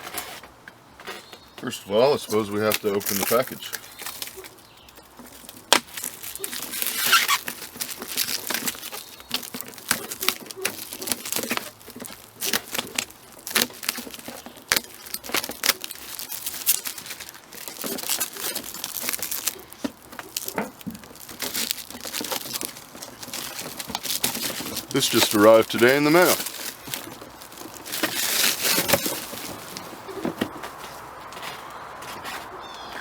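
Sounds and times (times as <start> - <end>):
packaging crinkling and tearing: 2.0 - 32.8
clicks and small knocks: 2.6 - 32.4.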